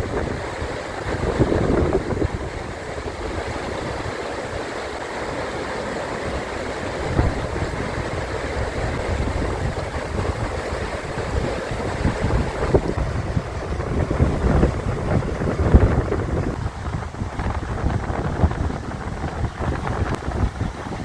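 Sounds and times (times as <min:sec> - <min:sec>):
wind buffeting microphone: 0:00.0 - 0:05.5, 0:06.2 - 0:21.0
river rapids rushing: 0:00.0 - 0:21.0.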